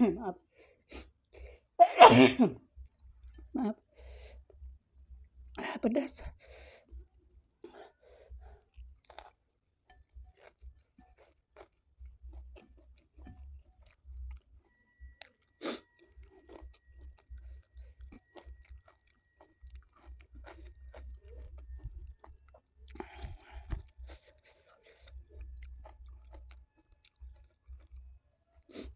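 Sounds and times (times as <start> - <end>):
chewing and crunching food: 2.6 - 28.9.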